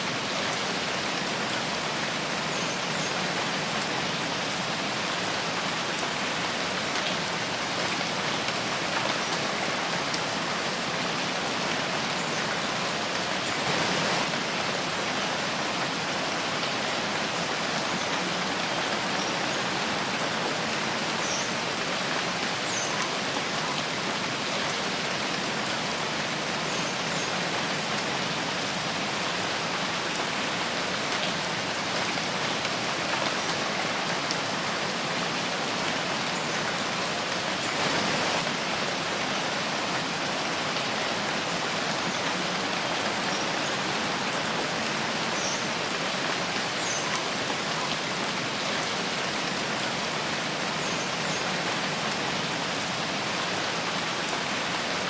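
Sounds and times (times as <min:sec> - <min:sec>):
rain pattering on leaves: 0:00.1 - 0:55.0.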